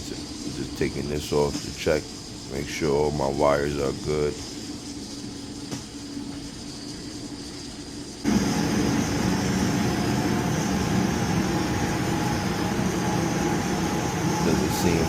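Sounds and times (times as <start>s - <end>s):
loud mechanical running noise: 0.0s - 15.0s
machinery humming: 0.0s - 15.0s.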